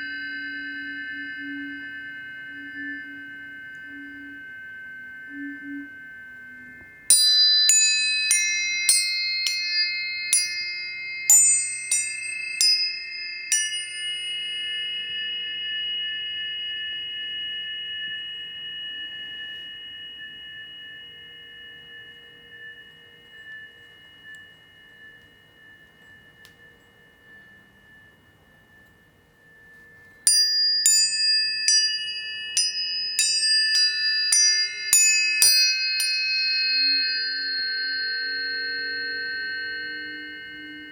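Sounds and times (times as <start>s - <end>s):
high clear ringing tones: 0.0s - 40.9s
tuning forks struck: 0.0s - 40.9s.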